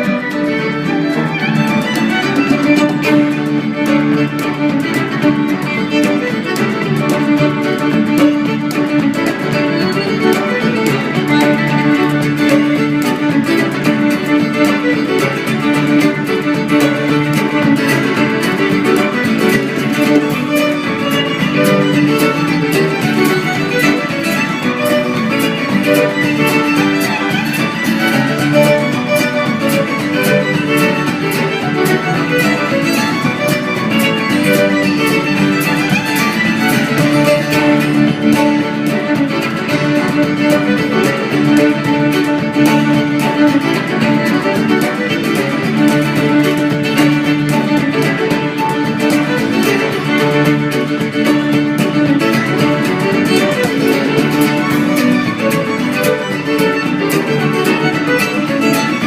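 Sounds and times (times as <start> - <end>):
fiddle playing a fast tune: 0.0 - 59.0
guitar accompaniment: 0.0 - 59.0.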